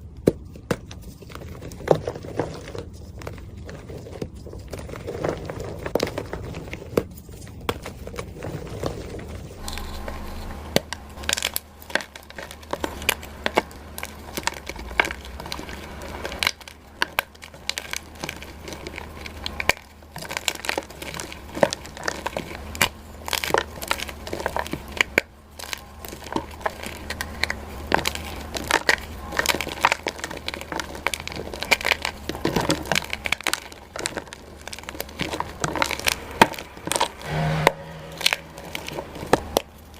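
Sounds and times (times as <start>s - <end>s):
chalk blocks crunching: 0.2s - 37.3s.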